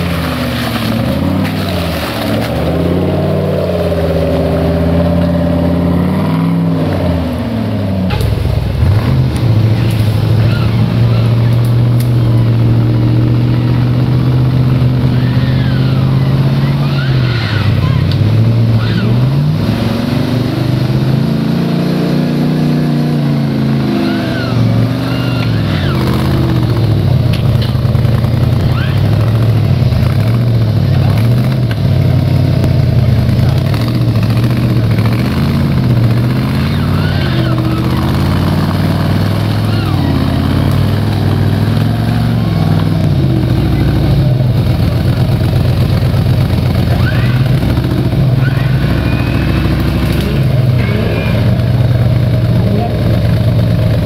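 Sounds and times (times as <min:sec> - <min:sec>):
engine revving hard: 0:00.9 - 0:54.0.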